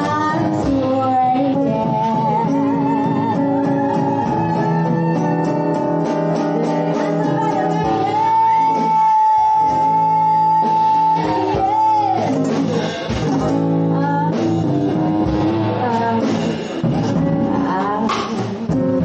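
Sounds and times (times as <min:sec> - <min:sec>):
drum kit: 0:00.0 - 0:19.0
electric guitar: 0:00.0 - 0:19.0.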